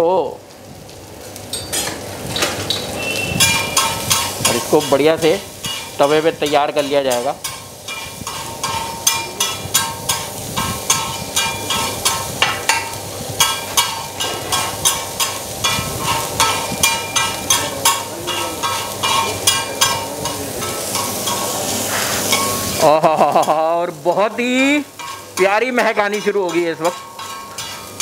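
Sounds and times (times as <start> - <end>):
minced meat sizzling: 0.0 - 28.0
metal spatula clanking on griddle: 1.4 - 28.0.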